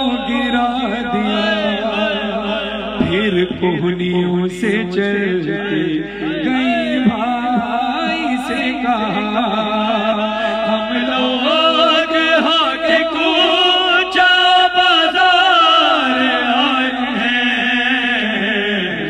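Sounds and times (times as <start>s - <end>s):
man singing a lament into a microphone: 0.0s - 19.0s.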